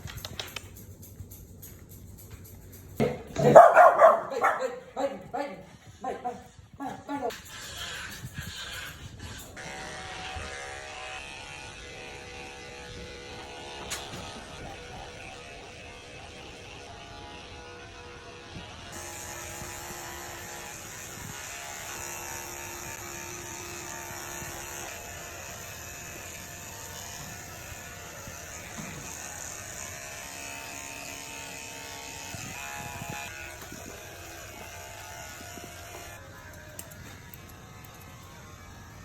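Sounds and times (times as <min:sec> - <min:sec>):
electric clippers buzzing: 0:03.0 - 0:05.4, 0:07.3 - 0:39.0.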